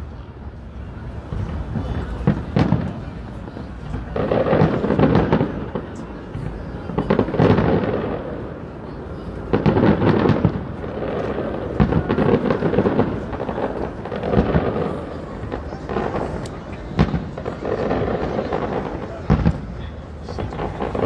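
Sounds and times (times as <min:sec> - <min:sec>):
fireworks booming and crackling: 0:00.8 - 0:21.0.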